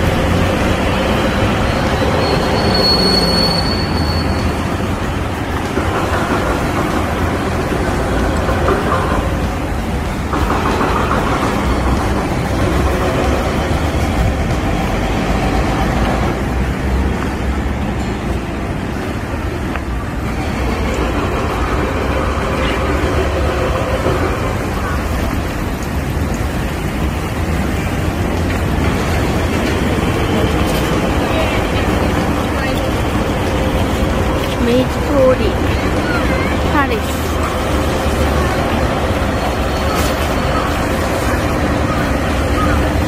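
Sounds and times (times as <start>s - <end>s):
rumble of passing vehicles: 0.0s - 43.0s.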